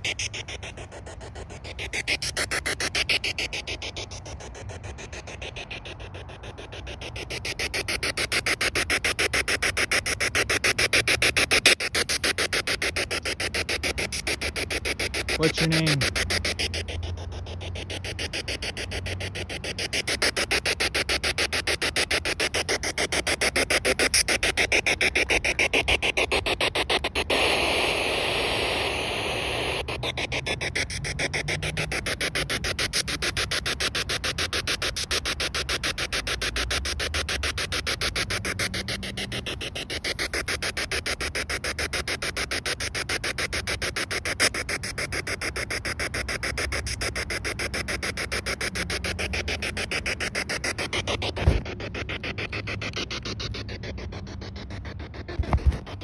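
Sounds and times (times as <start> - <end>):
radio static stuttering: 0.0 - 56.0.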